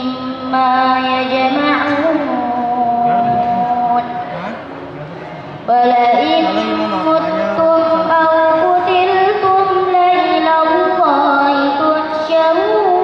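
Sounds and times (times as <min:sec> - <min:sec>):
woman chanting melodically: 0:00.0 - 0:04.2, 0:05.7 - 0:13.0.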